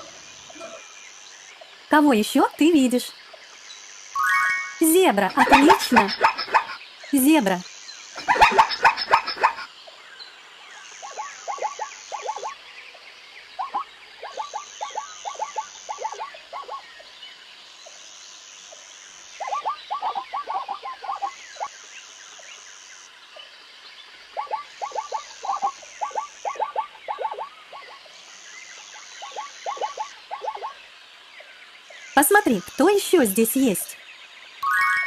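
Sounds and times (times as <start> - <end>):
frogs croaking: 0.0 - 34.6.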